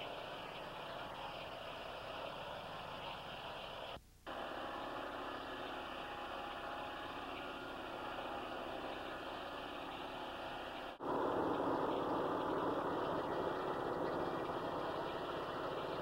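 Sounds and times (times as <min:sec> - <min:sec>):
tape hiss: 0:00.0 - 0:16.0.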